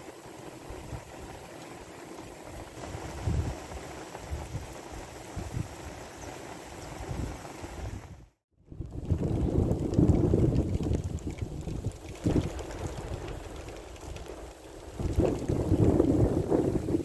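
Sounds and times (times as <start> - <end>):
wind buffeting microphone: 2.5 - 17.0.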